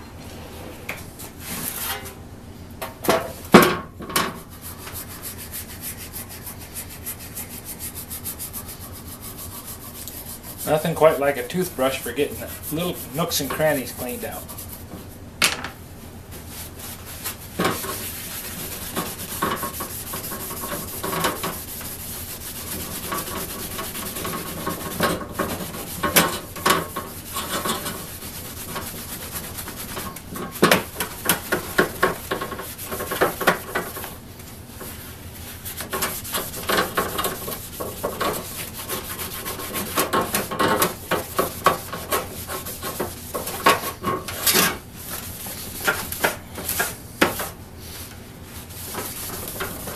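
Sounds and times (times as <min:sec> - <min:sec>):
paper towel rubbing saw blade: 0:04.4 - 0:14.9, 0:16.5 - 0:34.1, 0:34.8 - 0:47.0, 0:48.6 - 0:49.9.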